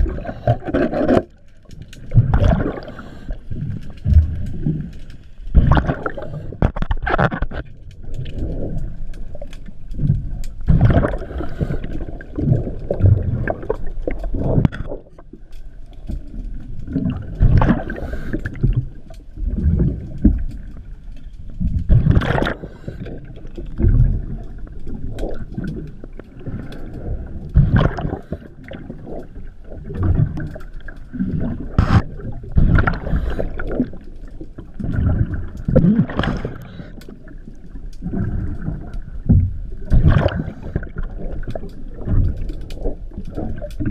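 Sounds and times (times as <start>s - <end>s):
diver's regulator breathing bubbles: 0.0s - 1.4s, 2.0s - 15.3s, 16.1s - 20.8s, 21.6s - 43.9s.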